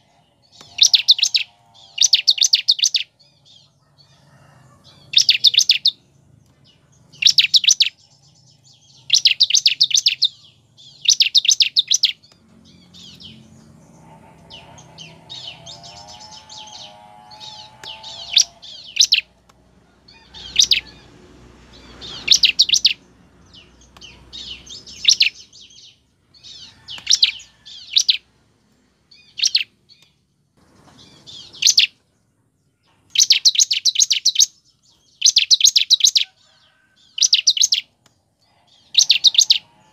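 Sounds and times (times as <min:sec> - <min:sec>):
bird chirping rapidly: 0:00.0 - 0:03.8, 0:04.8 - 0:19.5, 0:20.1 - 0:28.4, 0:29.1 - 0:32.0, 0:33.0 - 0:36.4, 0:37.0 - 0:38.0, 0:38.6 - 0:39.9.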